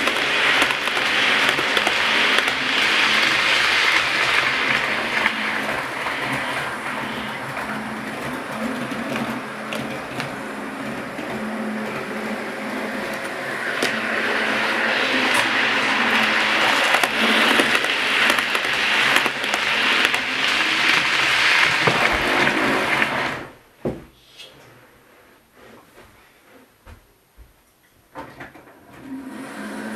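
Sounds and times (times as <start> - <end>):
model train motor whir: 0.0 - 23.5, 29.0 - 29.9.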